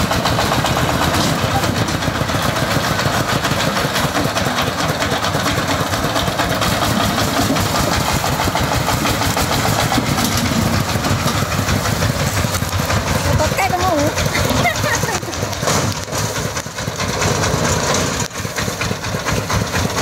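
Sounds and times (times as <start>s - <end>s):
diesel engine knocking: 0.0s - 20.0s.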